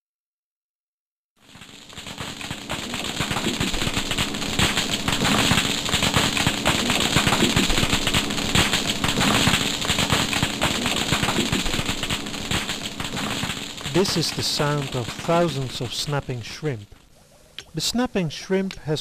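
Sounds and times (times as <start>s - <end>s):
snapping shrimp crackling: 1.6s - 17.8s.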